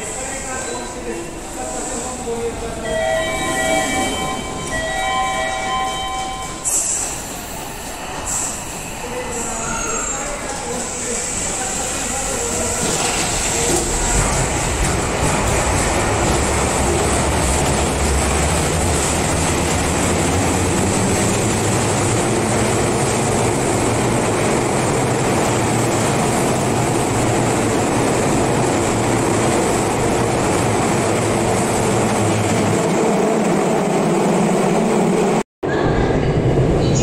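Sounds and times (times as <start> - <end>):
electric train rumbling: 0.0 - 37.0.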